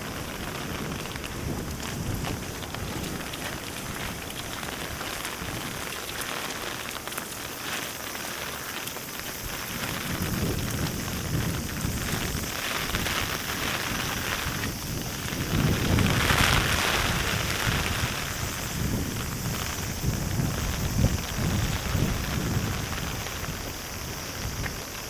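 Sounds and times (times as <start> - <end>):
heavy rain pattering: 0.0 - 25.0.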